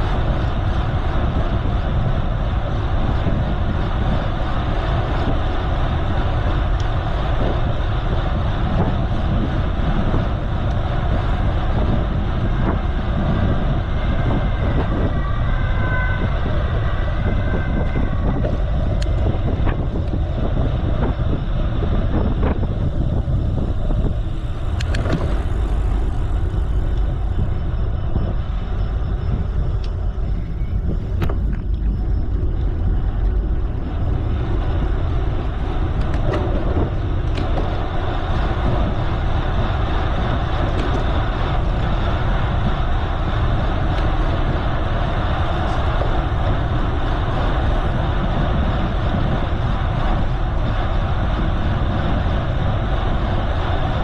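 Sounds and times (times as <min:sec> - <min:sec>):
bicycle tyre noise: 0:00.0 - 0:54.0
wind rumble on microphone: 0:00.0 - 0:54.0.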